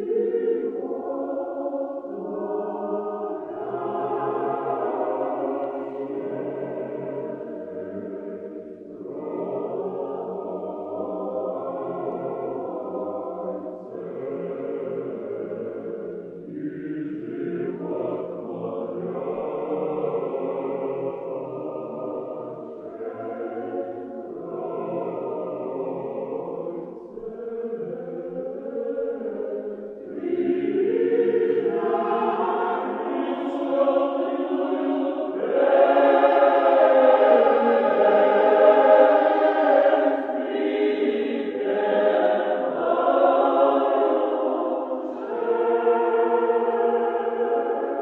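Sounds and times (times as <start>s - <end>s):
choir singing a slow chant: 0.0s - 48.0s.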